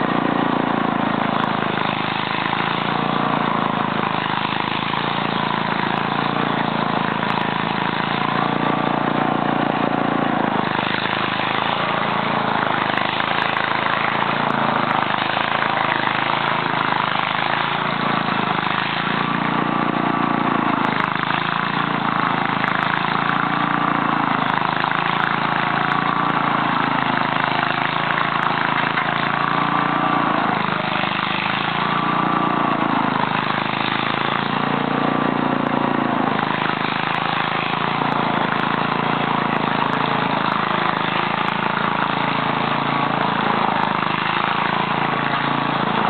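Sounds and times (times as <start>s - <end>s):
atv engine under load: 0.0s - 46.0s.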